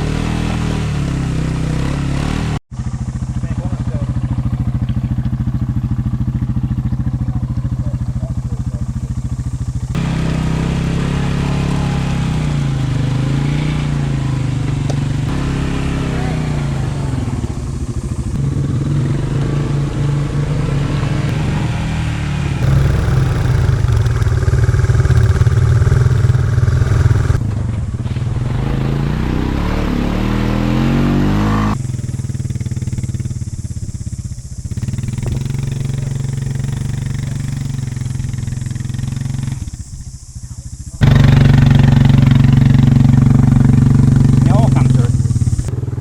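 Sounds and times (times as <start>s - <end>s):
quad bike engine revving: 0.0s - 46.0s.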